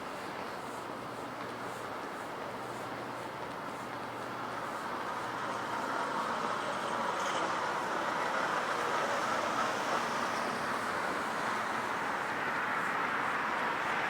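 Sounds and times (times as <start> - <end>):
passing traffic: 2.6 - 14.0.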